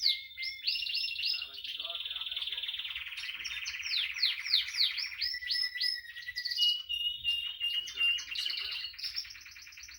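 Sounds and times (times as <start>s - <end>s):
canary singing: 0.0s - 9.9s.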